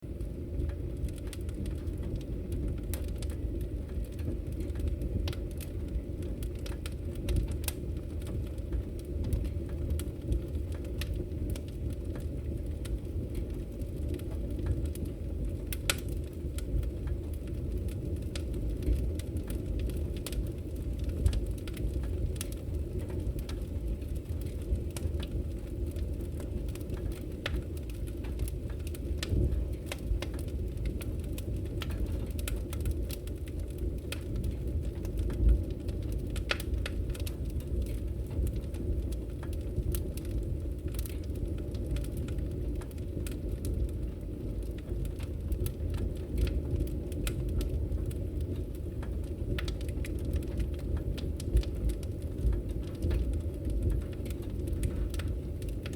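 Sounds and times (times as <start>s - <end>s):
firewood crackling and popping: 0.0s - 55.9s.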